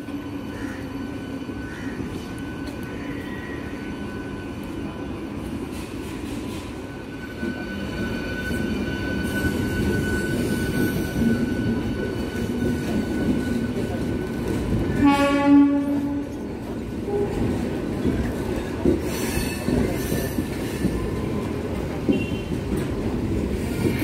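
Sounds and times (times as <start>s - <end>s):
electric train rumble: 0.0s - 24.0s
high whine of train: 0.0s - 24.0s.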